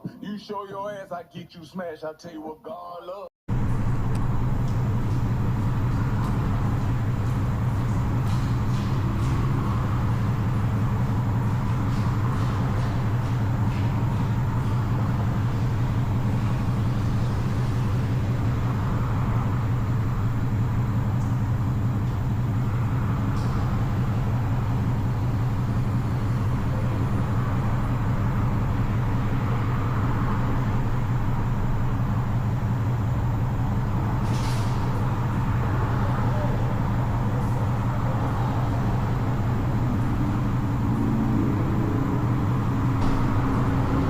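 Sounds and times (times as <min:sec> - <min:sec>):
car engine idling: 0:03.5 - 0:44.0.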